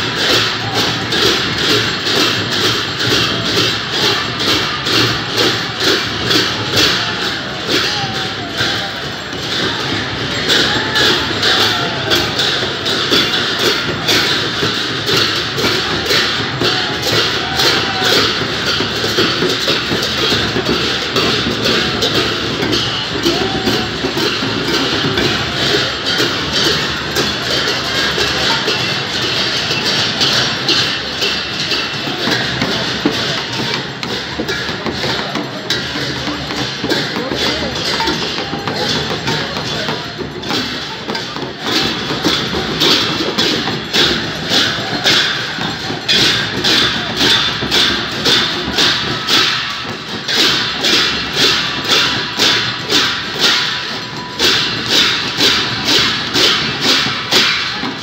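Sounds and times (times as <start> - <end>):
barrel drums beating: 0.0 - 58.0
brass cymbal clashes: 0.0 - 58.0.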